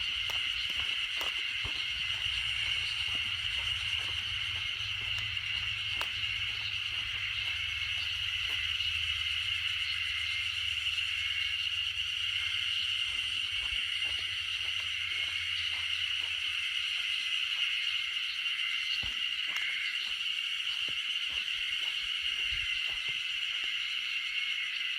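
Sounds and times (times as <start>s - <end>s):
cicadas singing: 0.0s - 24.9s.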